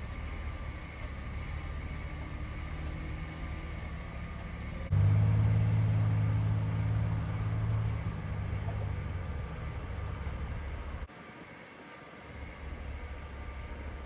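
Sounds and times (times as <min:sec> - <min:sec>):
low engine hum: 0:00.0 - 0:11.1, 0:12.3 - 0:14.0.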